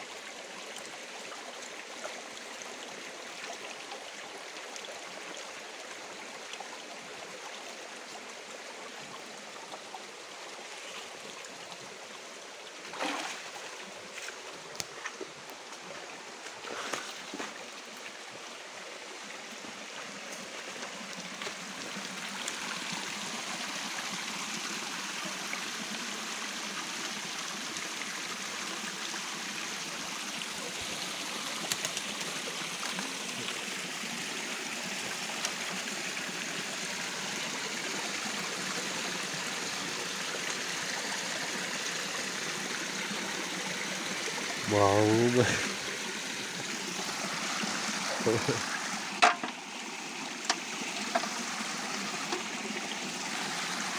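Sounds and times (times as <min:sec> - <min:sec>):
stream trickling over rocks: 0:00.0 - 0:53.9.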